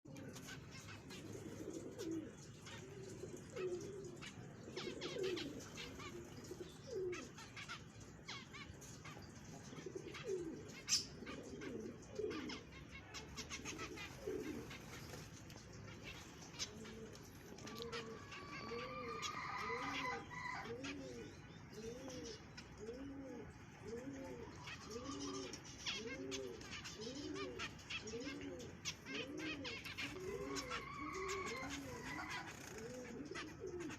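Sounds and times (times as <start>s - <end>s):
birds cooing: 0.1s - 33.9s
high bird chirping: 0.5s - 33.9s.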